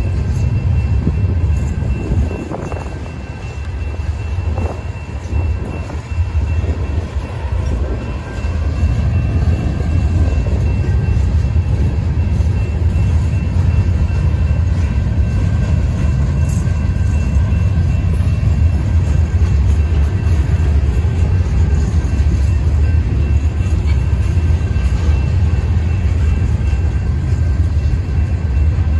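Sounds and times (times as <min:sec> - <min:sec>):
freight cars rumbling on rails: 0:00.0 - 0:28.9.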